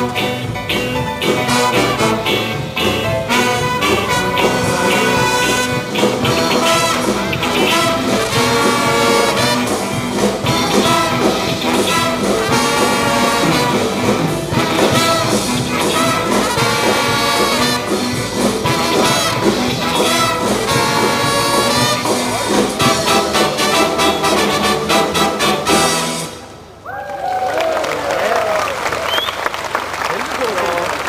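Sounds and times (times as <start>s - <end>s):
swing jazz ensemble: 0.0s - 26.6s
trombone: 0.0s - 26.6s
trumpet: 0.0s - 26.7s.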